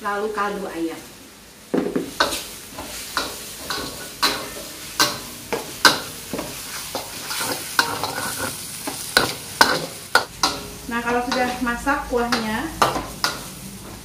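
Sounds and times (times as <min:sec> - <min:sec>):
frying sizzle: 0:00.0 - 0:14.0
spatula scraping wok: 0:02.0 - 0:14.0.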